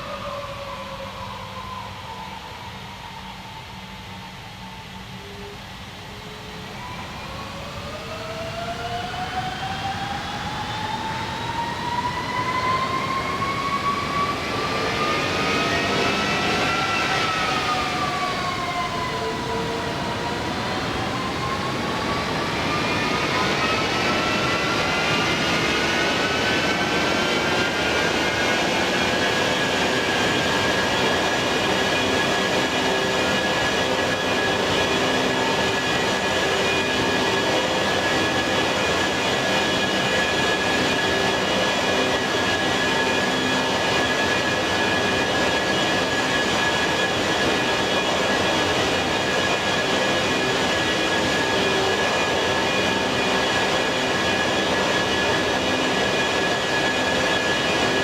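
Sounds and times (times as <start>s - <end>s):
jet engines spooling up: 0.0s - 58.0s.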